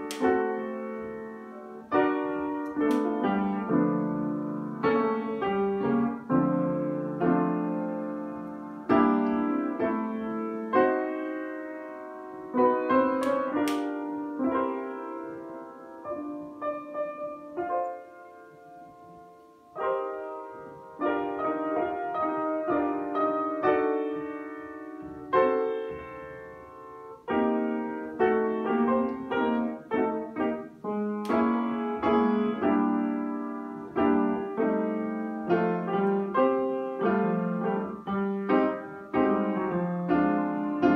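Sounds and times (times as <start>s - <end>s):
piano chords: 0.0s - 40.9s.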